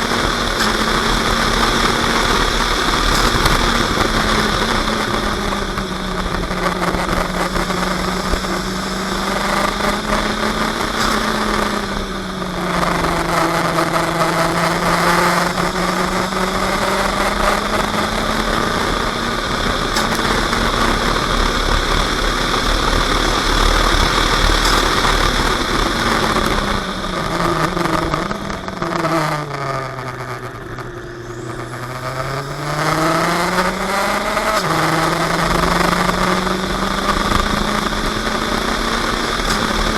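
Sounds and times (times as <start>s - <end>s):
racing car engine: 0.0s - 39.9s
wind and road noise: 0.0s - 39.9s.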